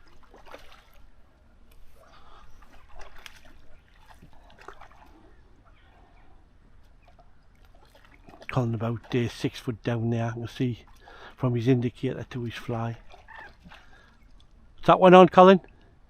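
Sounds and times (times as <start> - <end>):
faint water splashing: 0.0 - 16.0.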